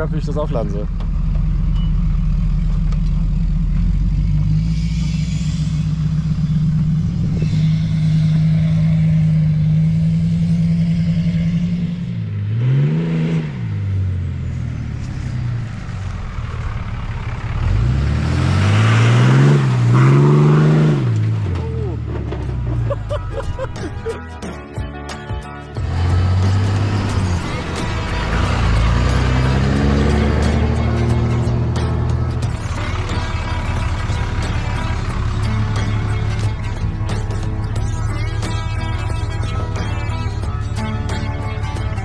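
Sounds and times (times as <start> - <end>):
truck engine running and revving: 0.0 - 42.0.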